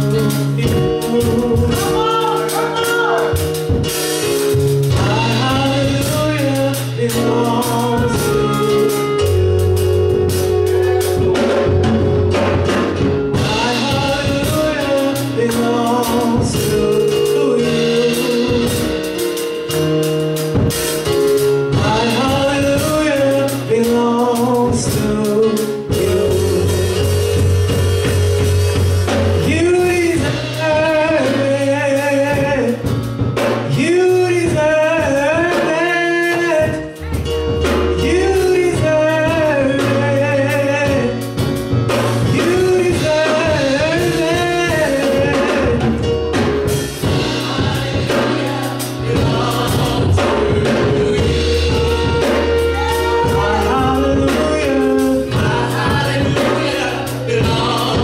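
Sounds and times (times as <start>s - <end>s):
drums: 0.0s - 58.0s
gospel song singing: 0.0s - 58.0s
sustained bass notes: 0.0s - 58.0s.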